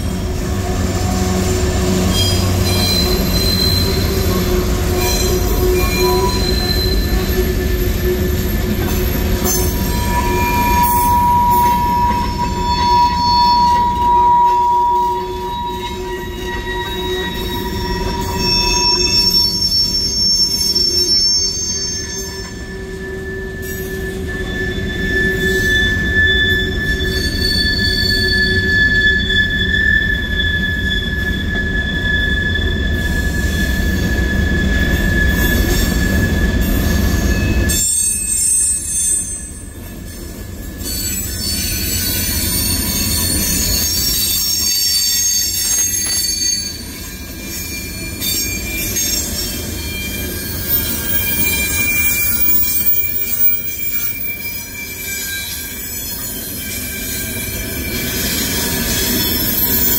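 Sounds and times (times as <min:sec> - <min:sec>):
train rumble: 0:00.0 - 0:59.9
train wheels squealing: 0:00.0 - 0:59.9.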